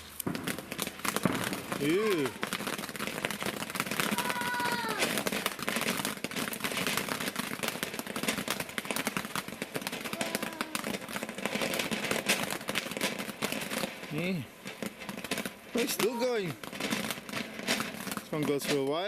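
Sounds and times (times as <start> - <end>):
fountain firework crackling: 0.0 - 19.0.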